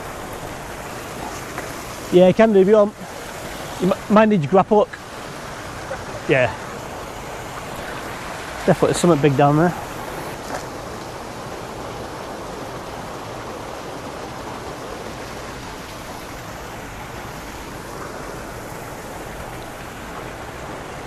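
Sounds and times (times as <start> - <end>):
water rushing over weir: 0.0 - 21.0.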